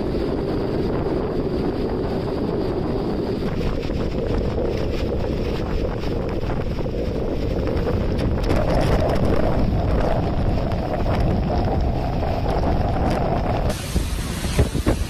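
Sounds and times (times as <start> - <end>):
strong wind and driving rain: 0.0 - 15.0
wind buffeting microphone: 0.0 - 15.0.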